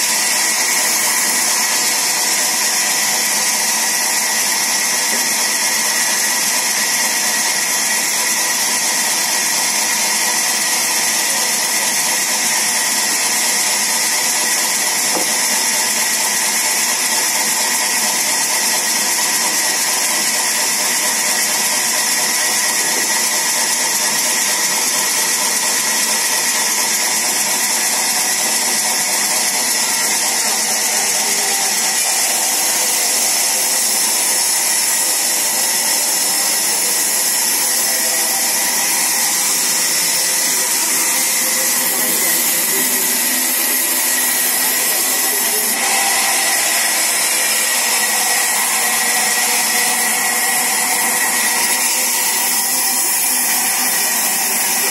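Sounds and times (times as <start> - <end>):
band saw running: 0.0 - 54.9.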